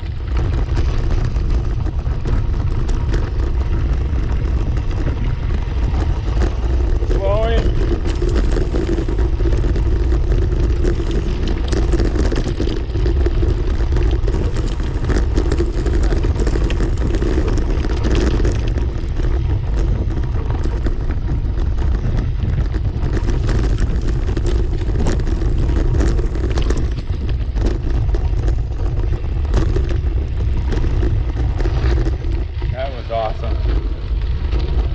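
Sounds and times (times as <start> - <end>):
bicycle tyres rumbling on dirt: 0.0 - 34.9
bike clicks and rattles: 0.0 - 34.9
wind on microphone: 0.0 - 34.9.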